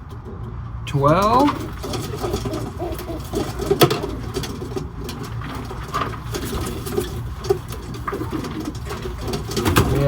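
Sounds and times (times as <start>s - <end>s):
pigeons cooing: 1.2s - 10.0s.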